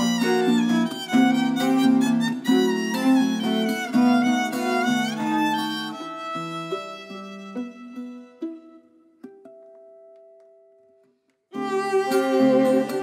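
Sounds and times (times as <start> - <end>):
violin and viola melody: 0.0 - 10.4, 11.5 - 13.0
plucked string accompaniment: 0.0 - 13.0.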